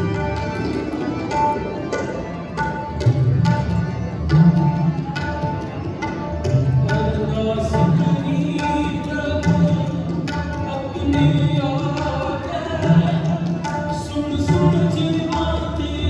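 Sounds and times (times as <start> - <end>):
tabla drumming: 0.0 - 16.0.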